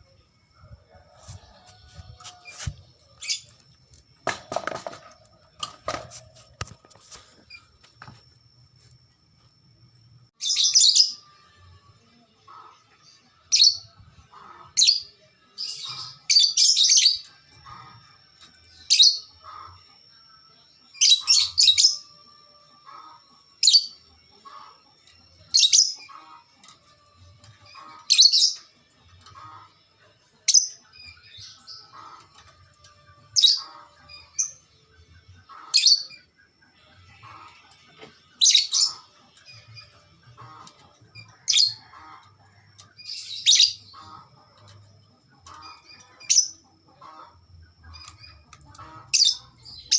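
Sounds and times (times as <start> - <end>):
songbird chirping: 0.0 - 49.9.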